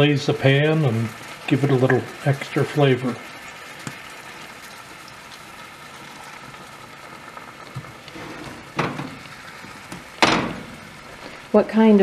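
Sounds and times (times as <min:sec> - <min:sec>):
liquid sizzling in a hot pan: 0:00.0 - 0:12.0.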